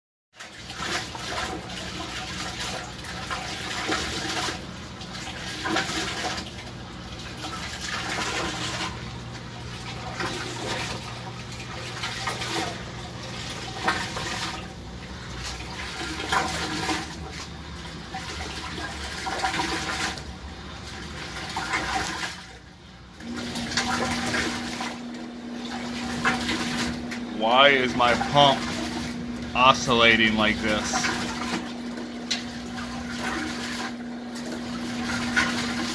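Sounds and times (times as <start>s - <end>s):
water gushing from pump jet: 0.4s - 35.9s.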